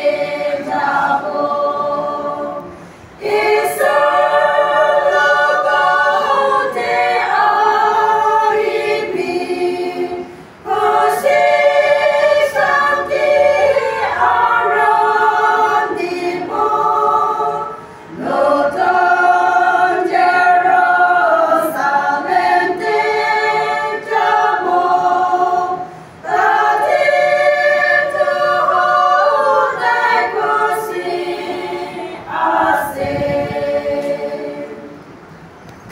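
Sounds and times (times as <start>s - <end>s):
women's choir singing a cappella: 0.0s - 35.3s.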